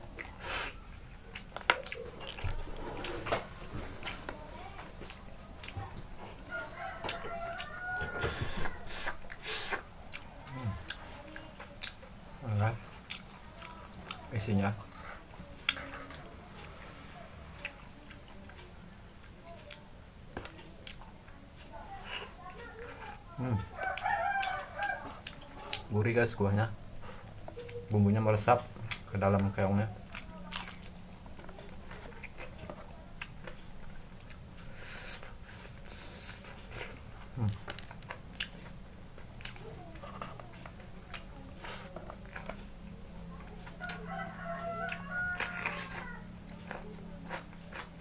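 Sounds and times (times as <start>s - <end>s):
person chewing food: 0.0s - 48.0s
soft eating sounds: 0.0s - 48.0s.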